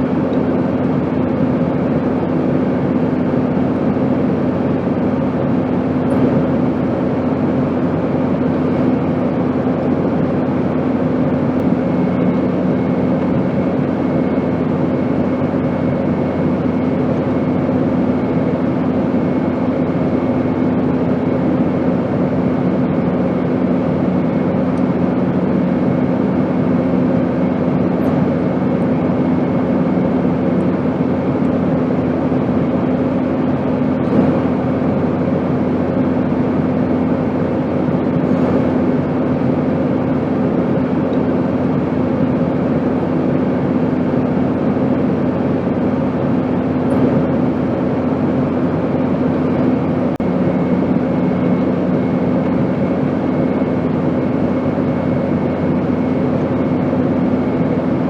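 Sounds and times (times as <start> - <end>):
airplane drone: 0.0 - 58.0.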